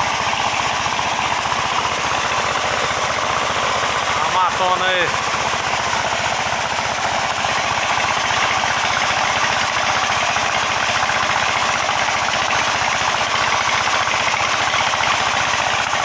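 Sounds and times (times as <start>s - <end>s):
small engine running steadily: 0.0s - 16.0s.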